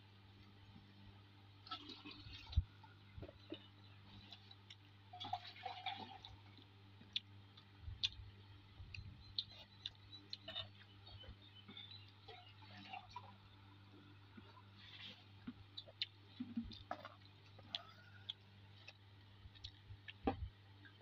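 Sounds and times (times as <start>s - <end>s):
low steady hum: 0.0s - 21.0s
wet squishes of rice: 0.2s - 21.0s.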